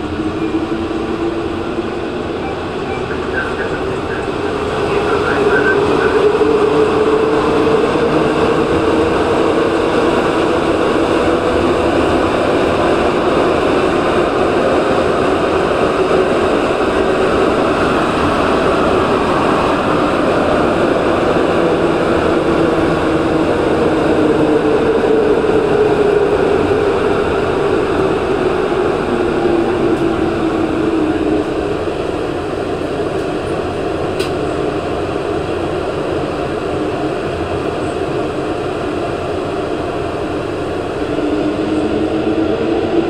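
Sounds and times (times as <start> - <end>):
metro train rumble in tunnel: 0.0 - 43.0.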